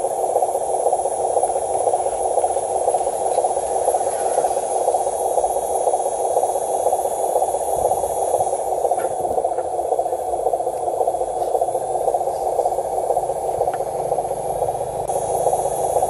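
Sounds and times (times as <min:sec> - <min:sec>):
model truck running: 0:00.0 - 0:16.0.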